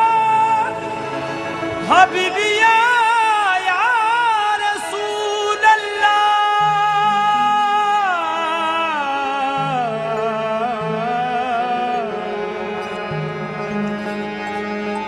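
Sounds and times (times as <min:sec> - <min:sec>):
harmonium: 0:00.0 - 0:15.0
man singing melismatic notes: 0:00.0 - 0:15.0.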